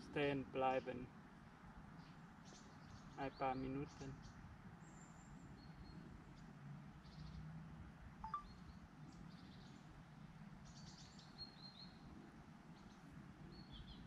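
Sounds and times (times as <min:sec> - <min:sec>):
small birds chirping and trilling: 0:00.0 - 0:14.0.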